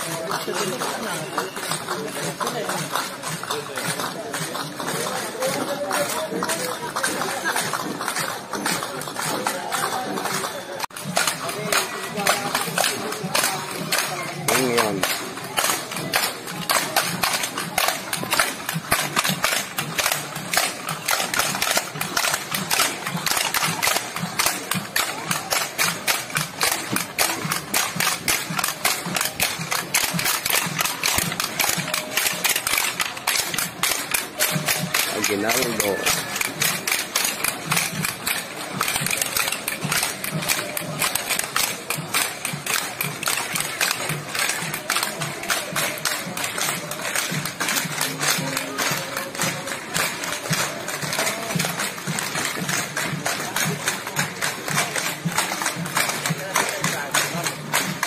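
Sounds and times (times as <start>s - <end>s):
low drum beats: 0.0s - 58.0s
wooden percussion clacks: 0.0s - 58.0s.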